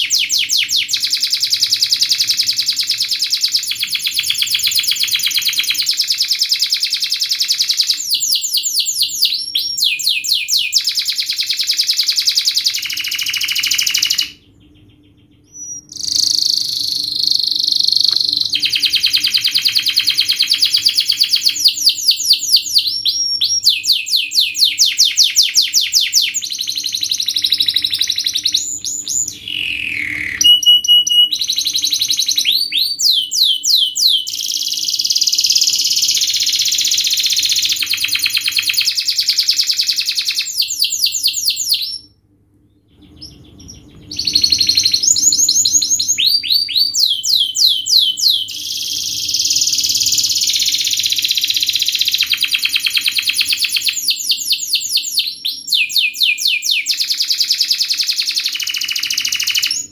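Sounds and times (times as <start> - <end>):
canary singing rapid trills: 0.0 - 42.2, 42.9 - 59.9.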